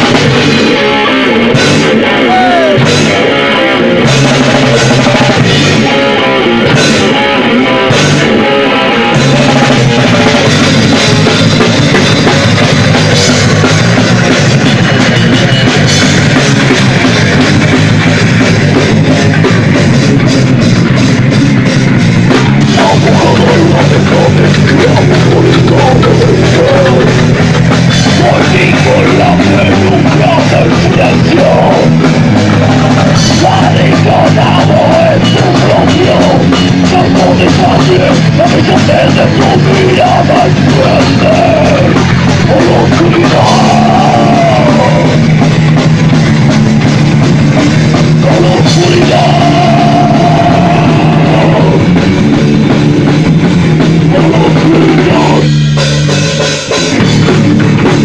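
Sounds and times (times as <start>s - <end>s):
drum kit: 0.0s - 58.0s
electric guitar: 0.0s - 58.0s.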